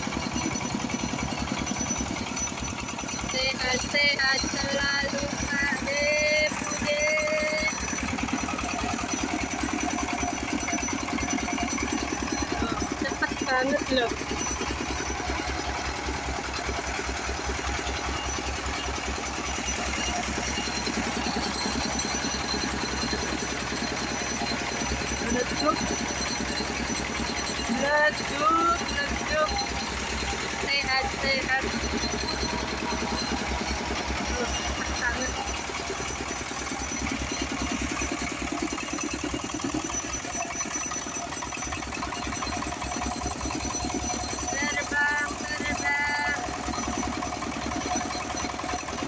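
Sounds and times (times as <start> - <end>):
threshing machine engine running: 0.0 - 49.0.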